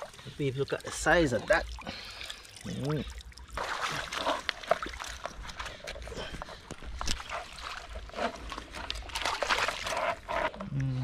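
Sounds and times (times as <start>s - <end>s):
water lapping at shore: 0.0s - 10.6s.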